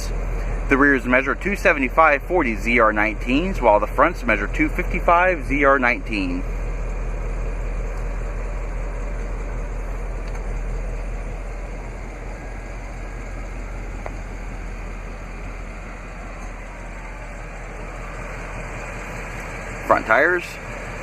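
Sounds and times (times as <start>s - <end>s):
low rumble of vehicle noise: 0.0s - 21.0s.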